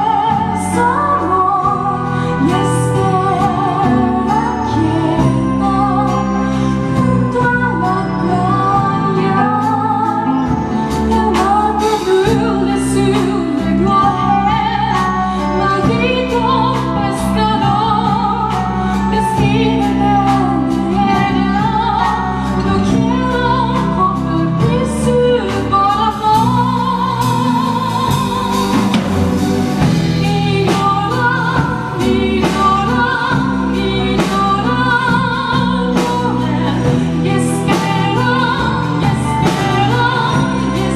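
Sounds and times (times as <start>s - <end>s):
instrumental accompaniment: 0.0s - 40.9s
woman singing slow song: 0.0s - 40.9s.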